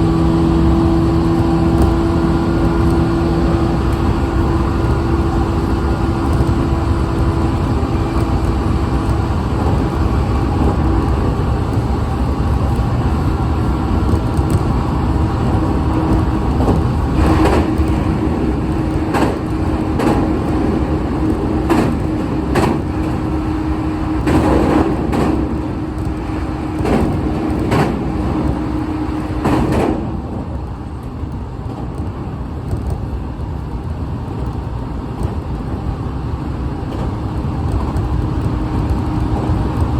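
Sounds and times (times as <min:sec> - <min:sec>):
train rumbling on track: 0:00.0 - 0:39.9
wheels clicking over rail joints: 0:00.0 - 0:39.9.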